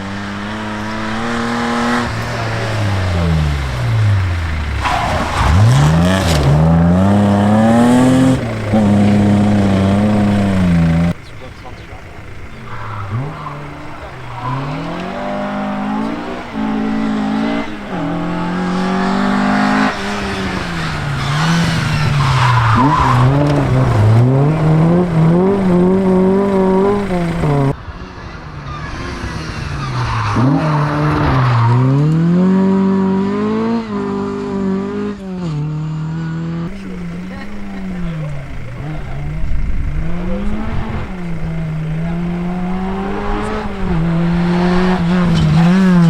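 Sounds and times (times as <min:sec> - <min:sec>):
rally car engine at full throttle: 0:00.0 - 0:46.0.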